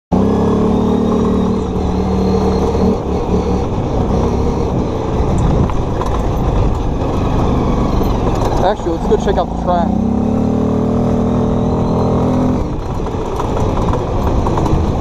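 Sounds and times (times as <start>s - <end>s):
atv engine running: 0.1s - 15.0s.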